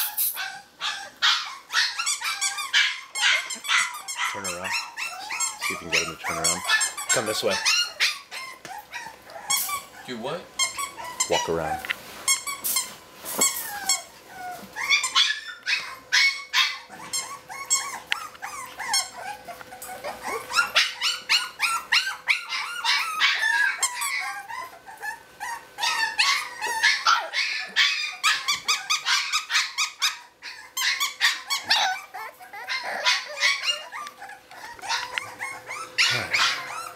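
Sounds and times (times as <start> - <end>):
puppies barking and yapping: 0.0 - 36.9.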